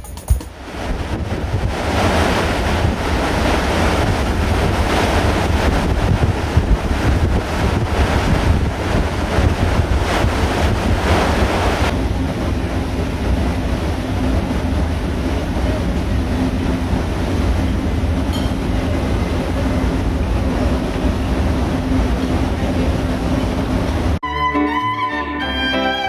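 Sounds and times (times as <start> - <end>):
low rumble of ship engines: 0.0 - 26.0
rush of ship's churning wake: 0.5 - 24.2
wind buffeting microphone: 0.5 - 24.2.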